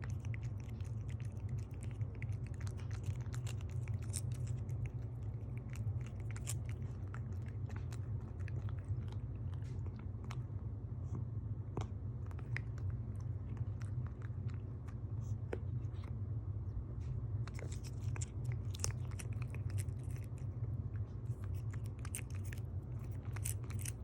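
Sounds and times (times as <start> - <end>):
cat licking and chewing: 0.0 - 24.0
steady low hum: 0.0 - 24.0.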